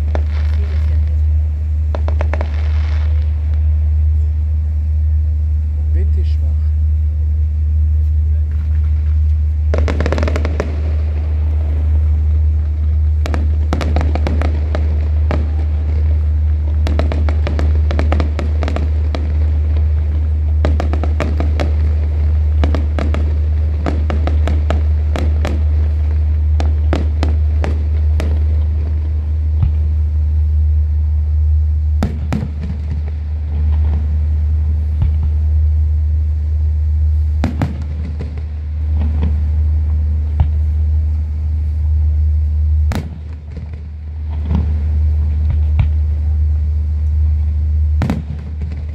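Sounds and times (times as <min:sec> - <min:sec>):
fireworks bangs and crackling: 0:00.0 - 0:07.2, 0:07.8 - 0:48.9
steady low hum: 0:00.0 - 0:48.9.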